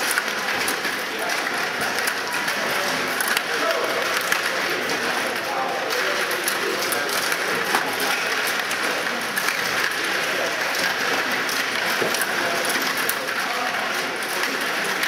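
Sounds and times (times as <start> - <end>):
murmur of voices: 0.0 - 15.0
table hockey games clattering: 0.0 - 15.0.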